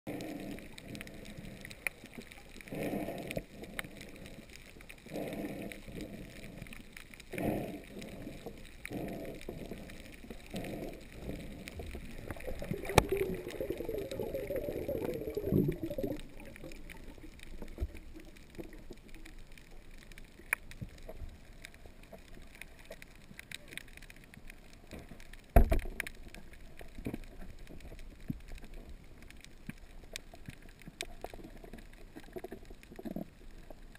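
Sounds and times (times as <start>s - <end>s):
underwater bubbling: 0.1s - 33.9s
underwater water surges: 0.1s - 33.9s.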